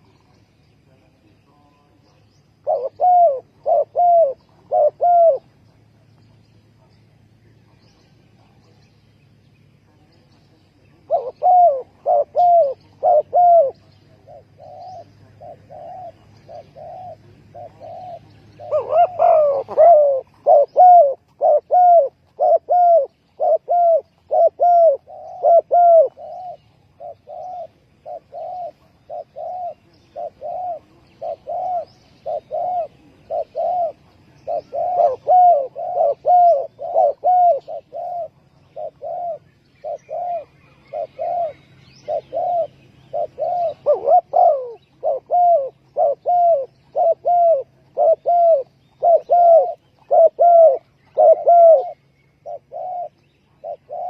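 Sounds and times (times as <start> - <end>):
doves cooing: 0.0 - 0.9, 1.8 - 8.7, 10.3 - 54.0.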